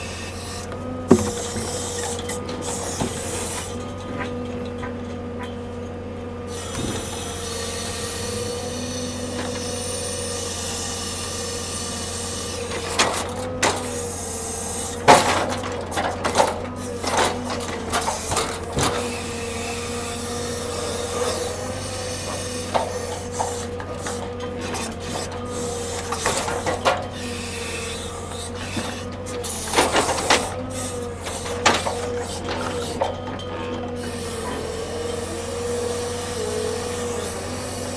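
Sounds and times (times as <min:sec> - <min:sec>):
heavy machinery hum and whine: 0:00.0 - 0:37.9
knocks and clanks of logs: 0:00.4 - 0:05.8, 0:06.6 - 0:07.6, 0:12.2 - 0:37.9.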